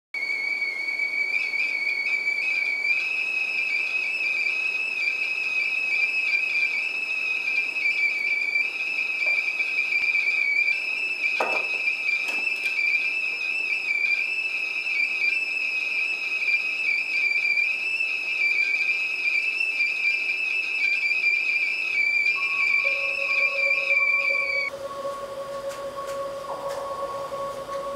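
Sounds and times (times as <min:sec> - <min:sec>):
kettle whistling: 0:00.2 - 0:27.9.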